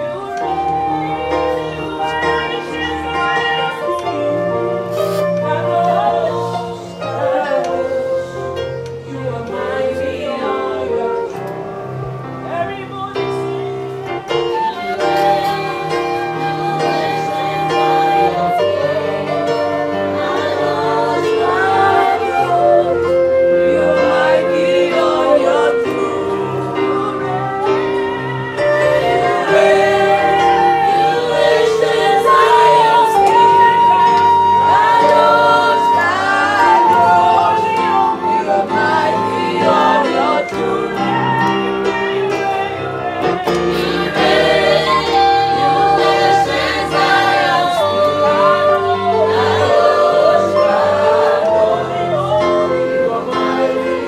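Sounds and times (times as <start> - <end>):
choir singing: 0.0 - 54.0
electronic keyboard accompaniment: 0.0 - 54.0.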